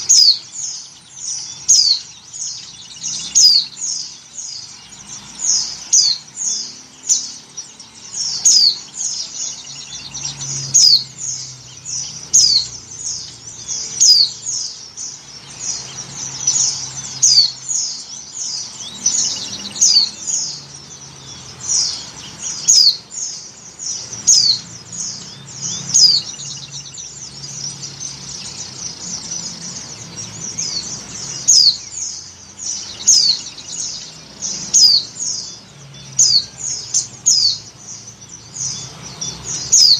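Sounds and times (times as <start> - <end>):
bird high chirping call: 0.0 - 39.9.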